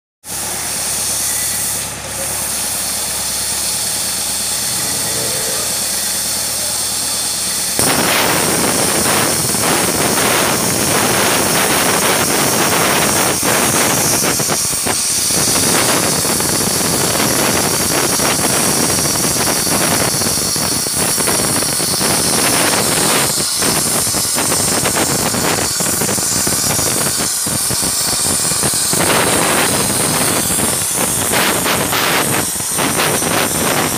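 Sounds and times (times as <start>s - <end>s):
plasma cutter air hiss: 0.3s - 33.9s
plasma arc crackling hiss: 0.7s - 33.9s.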